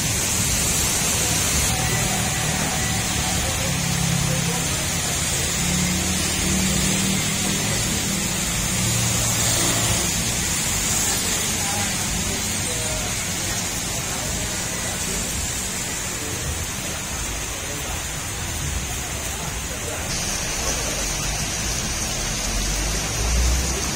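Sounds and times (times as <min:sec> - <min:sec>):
car driving on wet road: 0:00.0 - 0:23.9
heavy rain on pavement: 0:00.0 - 0:23.9.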